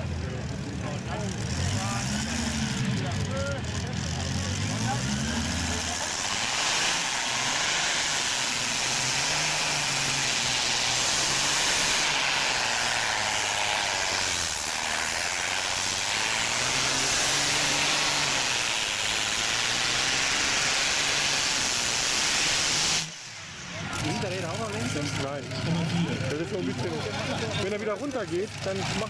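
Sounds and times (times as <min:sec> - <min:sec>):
tractor engine roaring: 0:00.0 - 0:29.0.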